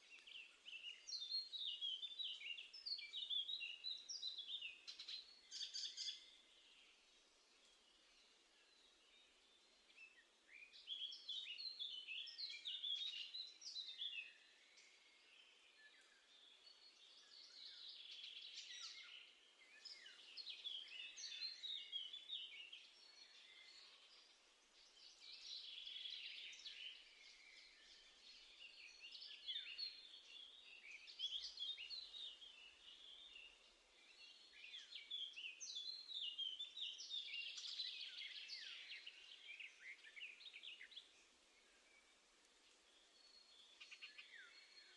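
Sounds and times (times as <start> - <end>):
small songbirds chirping: 0.0 - 44.9.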